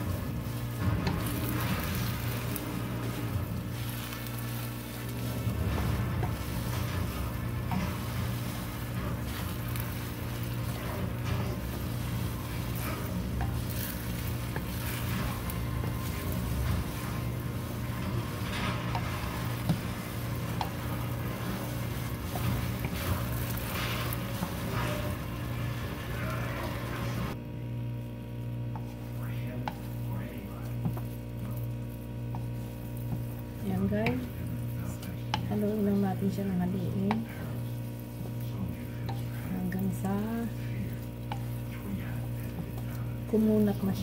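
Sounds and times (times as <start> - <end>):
wooden spatula scraping wok: 0.0 - 27.4, 28.0 - 44.0
rice sizzling in oil: 0.0 - 44.0
steady low hum: 0.0 - 44.0.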